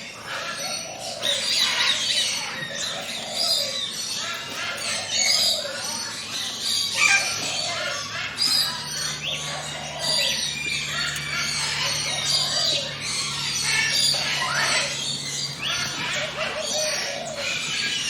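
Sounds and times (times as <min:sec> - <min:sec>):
chorus of forest birds: 0:00.0 - 0:18.0.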